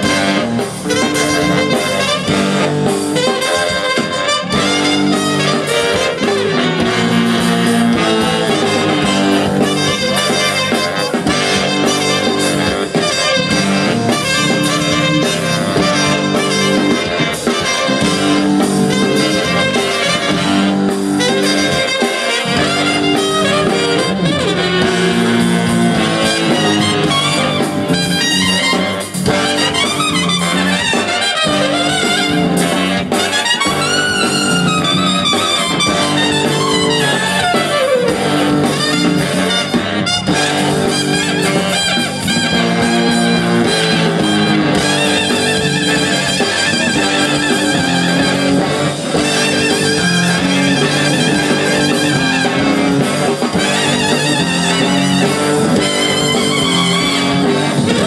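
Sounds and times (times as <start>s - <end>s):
brass horns: 0.0s - 58.0s
drum kit: 0.0s - 58.0s
funk-jazz band jamming: 0.0s - 58.0s.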